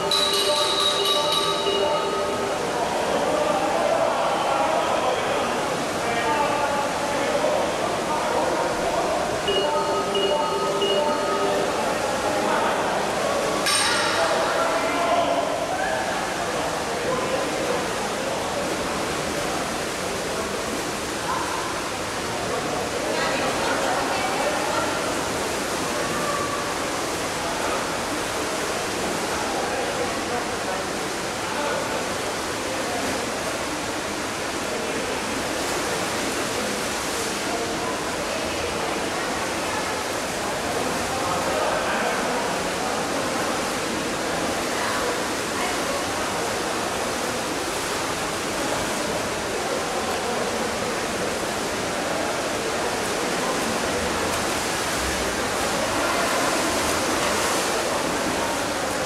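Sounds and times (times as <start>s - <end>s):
faint indistinct voices: 0.0s - 59.0s
rushing water noise: 0.0s - 59.0s.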